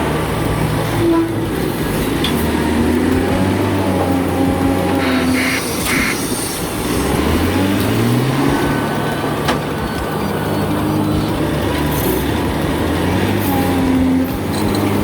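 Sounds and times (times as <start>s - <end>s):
heavy truck engine: 0.0s - 15.0s.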